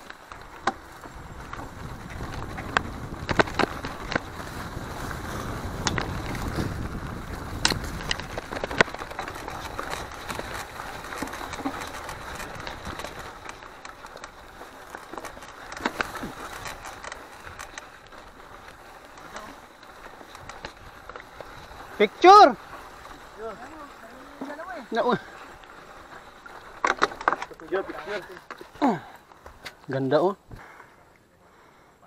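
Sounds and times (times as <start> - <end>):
bike rattling and knocking: 0.0 - 30.7
bike rolling noise rush: 0.0 - 30.8.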